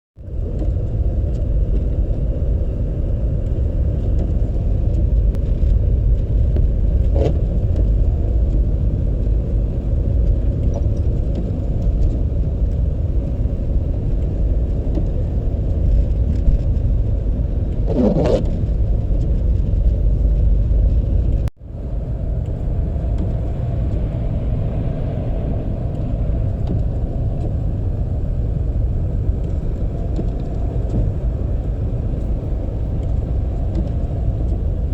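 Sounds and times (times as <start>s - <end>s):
car engine and road rumble: 0.2s - 34.9s.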